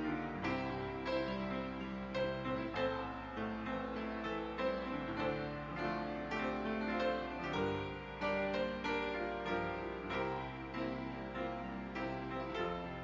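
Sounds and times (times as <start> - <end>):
slow quiet piano music: 0.0 - 13.0.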